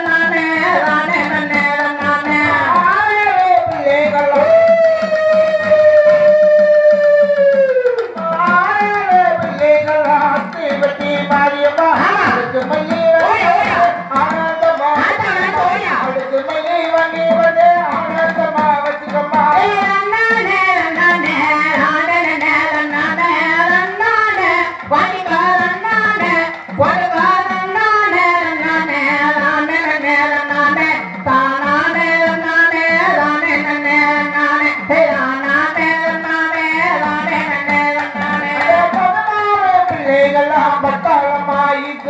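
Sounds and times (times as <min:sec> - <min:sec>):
women singing folk song: 0:00.0 - 0:42.0.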